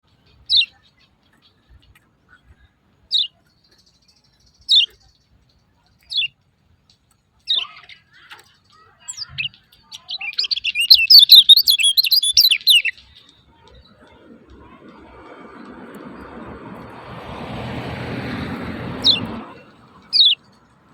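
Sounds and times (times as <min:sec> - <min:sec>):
bird chirping calls: 0:00.1 - 0:06.4, 0:07.4 - 0:20.9.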